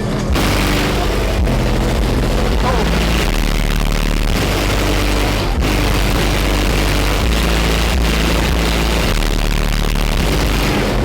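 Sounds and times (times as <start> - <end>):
loud bass-heavy car music: 0.0 - 11.0.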